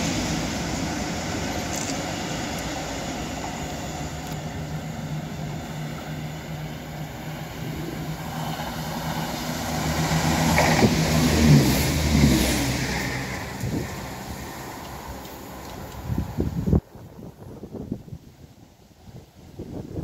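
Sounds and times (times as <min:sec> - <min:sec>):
low diesel drone: 0:00.0 - 0:16.7
train passing at speed: 0:00.0 - 0:20.0.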